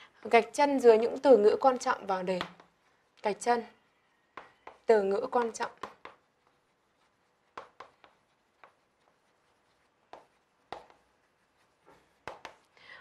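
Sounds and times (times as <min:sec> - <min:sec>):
chalk writing on chalkboard: 0:01.7 - 0:12.8.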